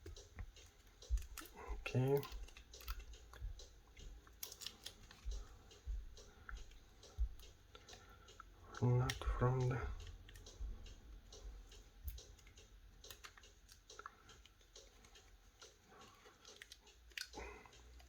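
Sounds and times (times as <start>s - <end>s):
small parts clicking and tapping: 0.0s - 18.0s.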